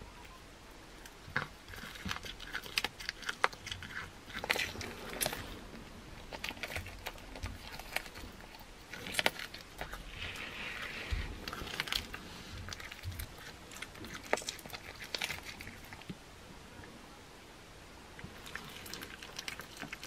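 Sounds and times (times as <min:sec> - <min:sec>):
cat chewing and licking meat: 0:00.9 - 0:16.2, 0:18.2 - 0:20.0.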